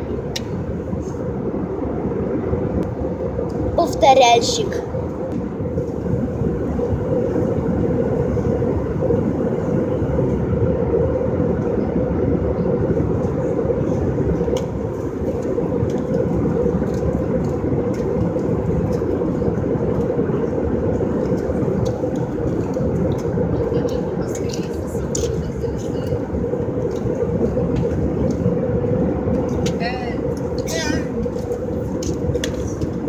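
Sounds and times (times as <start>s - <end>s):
airliner cabin drone: 0.0s - 33.0s
constant hum: 0.0s - 33.0s.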